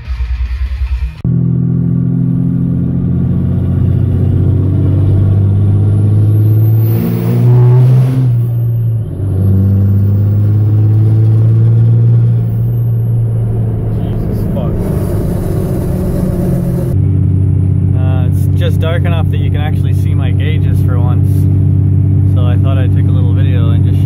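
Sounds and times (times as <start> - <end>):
diesel engine heard from inside cab: 1.0 - 24.0.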